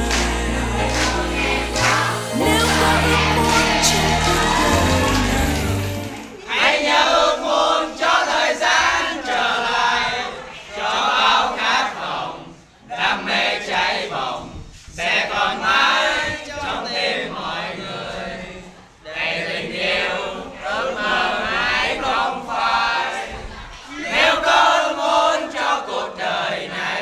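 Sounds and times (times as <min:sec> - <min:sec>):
boys chanting together: 0:00.0 - 0:27.0.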